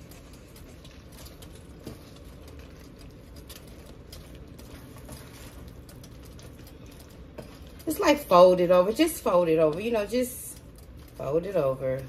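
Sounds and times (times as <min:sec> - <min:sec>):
soft bubbling sizzle: 0:00.0 - 0:12.0
stirring thick dip in skillet: 0:00.0 - 0:12.0.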